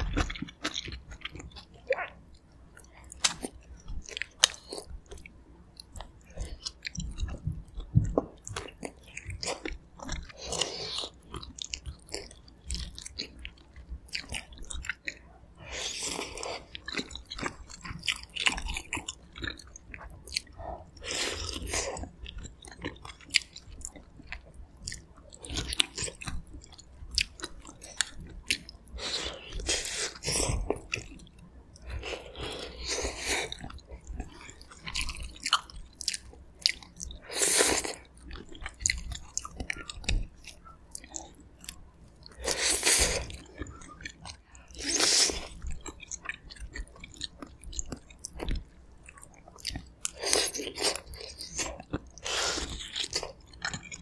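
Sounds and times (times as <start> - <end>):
close chewing and biting: 0.0 - 54.0.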